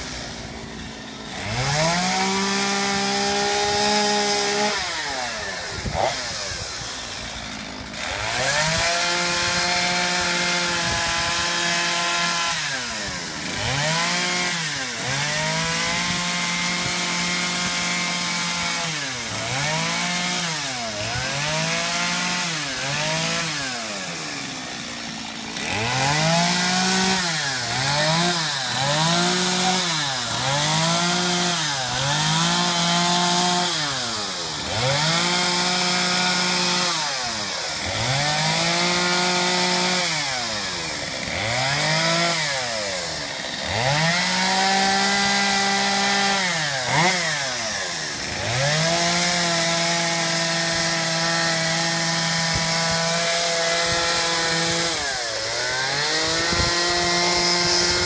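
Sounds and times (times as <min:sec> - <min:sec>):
chainsaw revving into log: 0:00.0 - 0:58.0.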